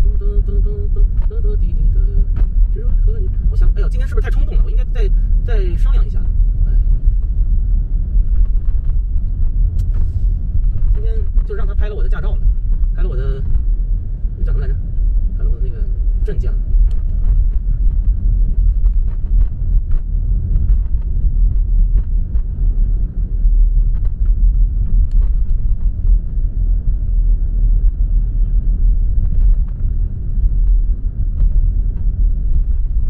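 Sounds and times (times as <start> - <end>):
car cabin road rumble: 0.0 - 33.0.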